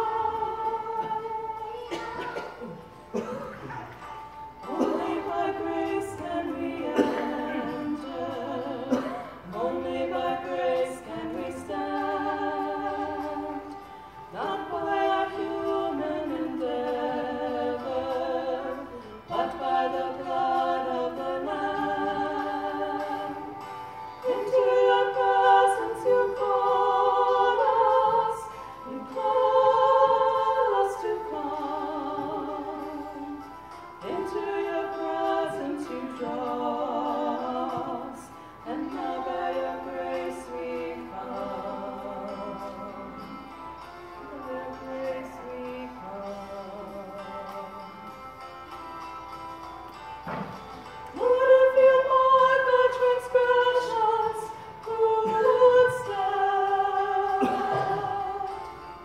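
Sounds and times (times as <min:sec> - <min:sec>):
two women singing: 0:00.0 - 0:03.7, 0:04.6 - 0:48.4, 0:50.3 - 0:59.0.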